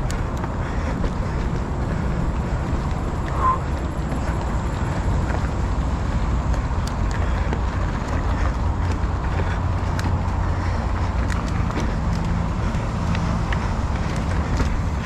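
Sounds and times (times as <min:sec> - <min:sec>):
road noise: 0:00.0 - 0:15.0
wind rumbling on microphone: 0:00.0 - 0:15.0.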